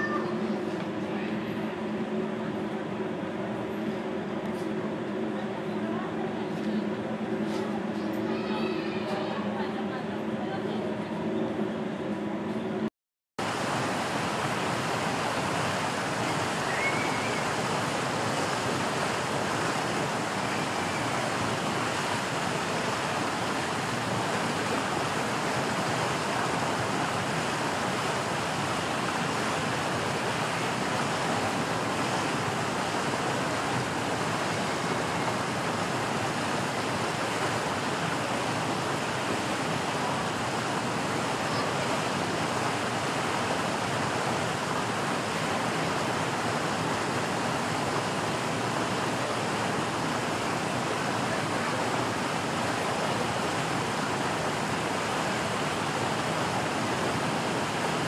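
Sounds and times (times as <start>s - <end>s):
steady rushing noise: 9.4s - 58.0s.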